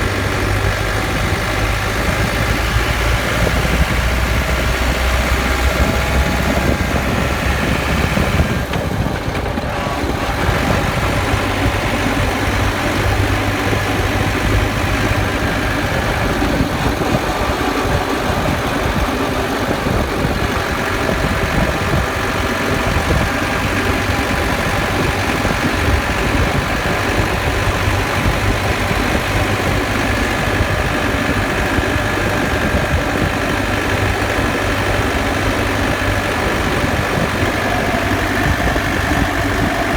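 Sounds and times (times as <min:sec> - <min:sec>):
differential whine and grinding: 0:00.0 - 0:39.9
vehicle engine drone: 0:00.0 - 0:39.9.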